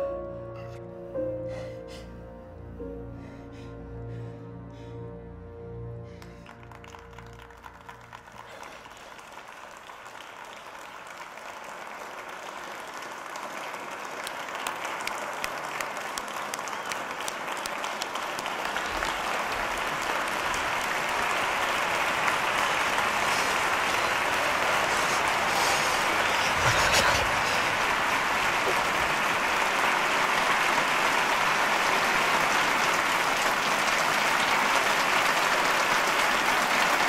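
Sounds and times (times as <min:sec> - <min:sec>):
audience applause: 0:06.1 - 0:37.0.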